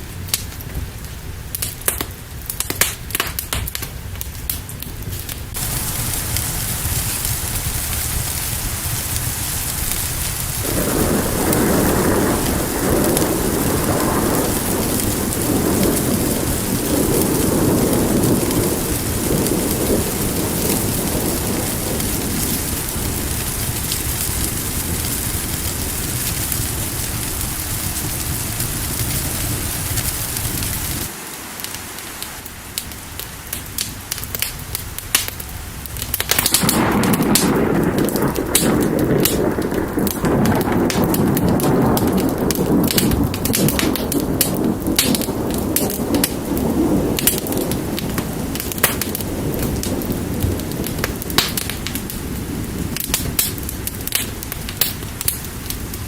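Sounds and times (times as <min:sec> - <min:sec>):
thunder rolling: 0:00.0 - 0:31.2, 0:32.4 - 0:56.0
heavy rain: 0:00.0 - 0:56.0
sharp crackles: 0:00.0 - 0:56.0.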